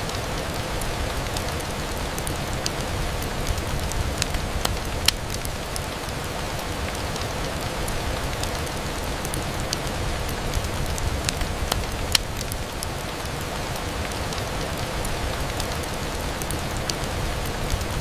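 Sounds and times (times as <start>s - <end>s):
rain on a window: 0.0s - 18.0s.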